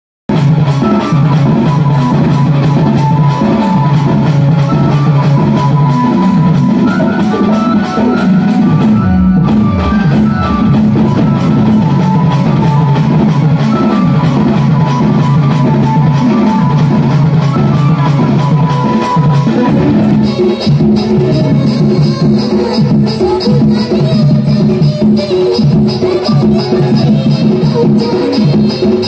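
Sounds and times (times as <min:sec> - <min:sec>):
fast steady drumming: 0:00.3 - 0:29.0
keyboard melody: 0:00.3 - 0:29.0.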